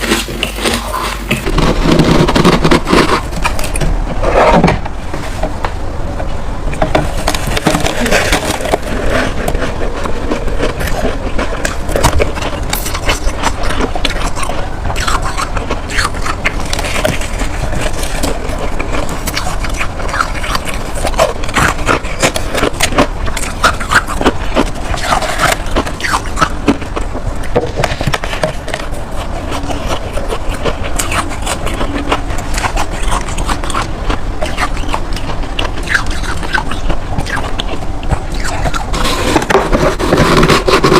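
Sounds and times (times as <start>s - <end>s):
freezer frost being scraped: 0.0s - 5.4s, 6.9s - 40.9s.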